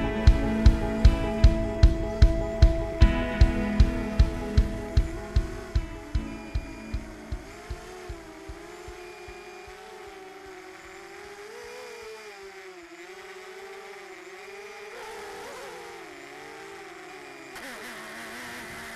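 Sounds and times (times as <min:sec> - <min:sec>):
quadcopter motors whining: 0:00.0 - 0:18.9.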